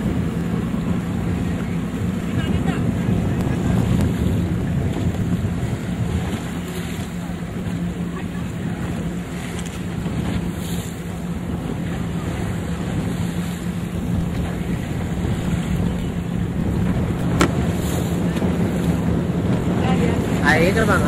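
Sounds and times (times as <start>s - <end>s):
boat engine droning: 0.0s - 21.0s
water washing around hull: 0.0s - 21.0s
wind buffeting microphone: 0.0s - 21.0s.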